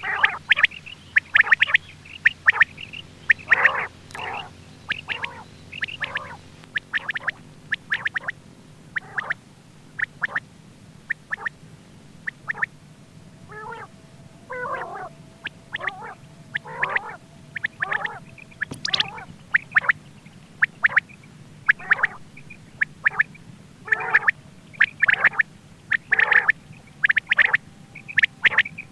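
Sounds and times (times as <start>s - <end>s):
gurgling warbling calls: 0.0s - 9.4s, 10.0s - 10.4s, 11.1s - 11.6s, 12.2s - 28.9s
quail calling: 0.0s - 11.6s, 12.2s - 28.9s
faint steady hum: 0.0s - 28.9s.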